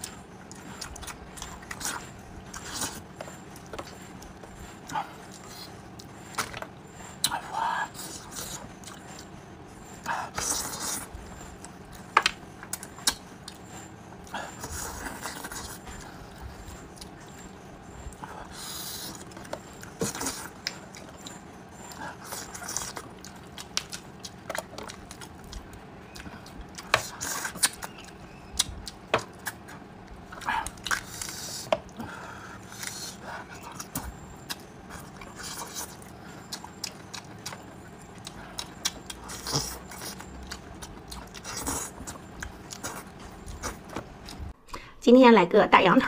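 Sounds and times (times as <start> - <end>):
chewing and lip smacks: 0.0 - 44.8.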